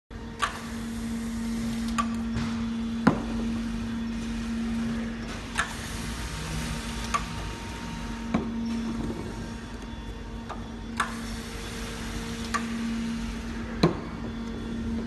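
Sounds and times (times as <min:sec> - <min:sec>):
machine motor humming: 0:00.2 - 0:15.0.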